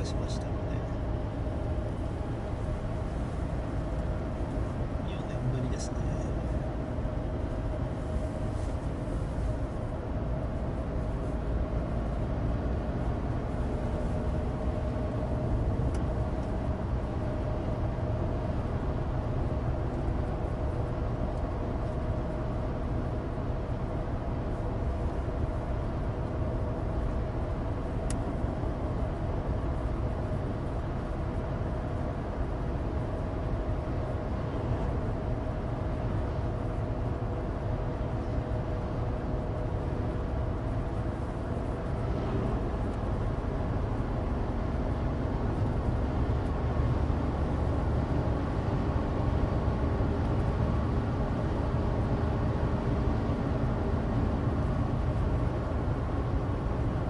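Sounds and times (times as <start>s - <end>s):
car engine drone: 0.0s - 57.0s
road and tyre rumble: 0.0s - 57.0s.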